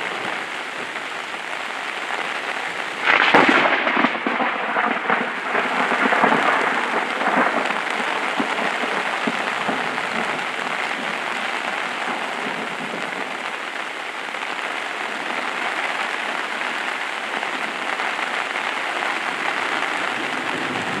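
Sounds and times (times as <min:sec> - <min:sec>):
heavy rain on a tarp: 0:00.0 - 0:21.0.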